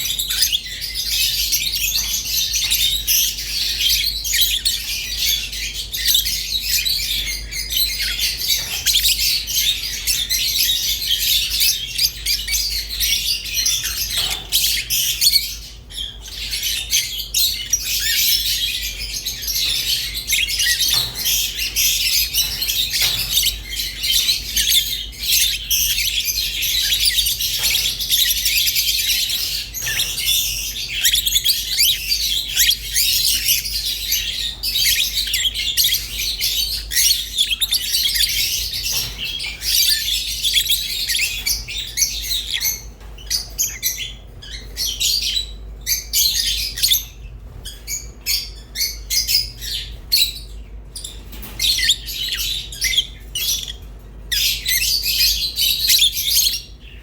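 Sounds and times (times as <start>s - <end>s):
lovebirds chirping: 0.0s - 57.0s.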